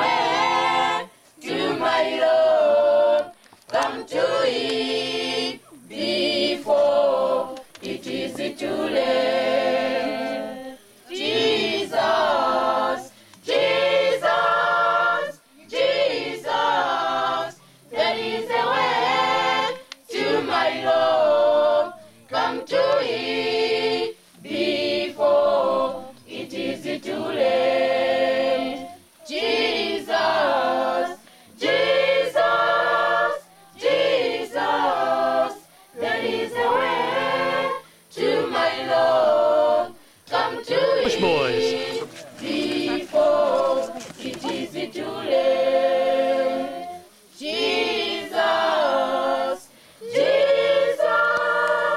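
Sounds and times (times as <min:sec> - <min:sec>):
choir singing a cappella: 0:00.0 - 0:51.9.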